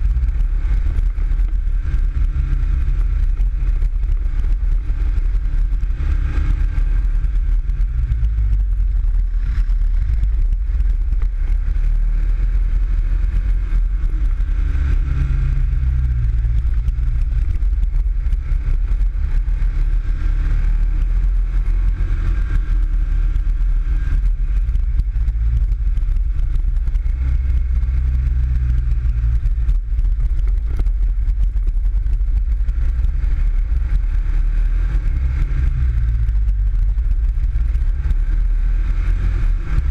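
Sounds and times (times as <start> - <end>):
buggy engine running: 0.0 - 39.9.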